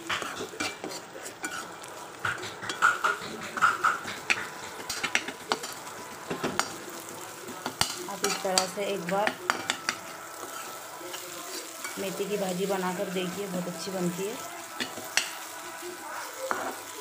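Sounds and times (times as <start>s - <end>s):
metal spatula scraping a wok: 0.0s - 17.0s.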